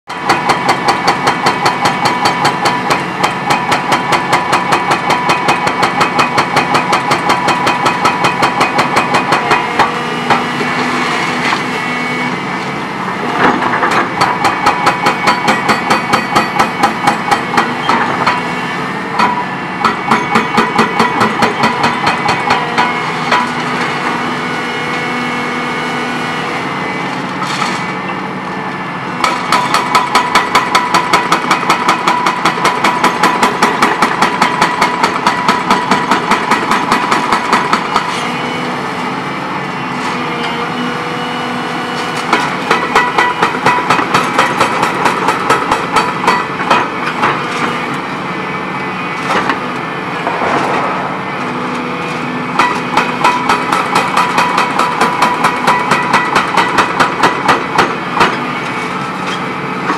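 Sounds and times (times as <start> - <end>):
hydraulic hammer pounding concrete: 0.1 - 12.2, 13.3 - 25.3, 29.2 - 38.5, 42.1 - 47.9, 49.2 - 59.9
excavator engine running: 0.2 - 59.9.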